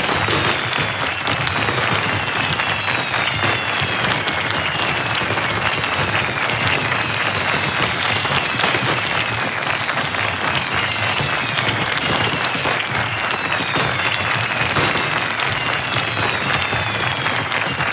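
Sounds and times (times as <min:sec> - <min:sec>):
high whistles gliding downward: 0:00.0 - 0:17.9
large crowd applauding: 0:00.0 - 0:17.9.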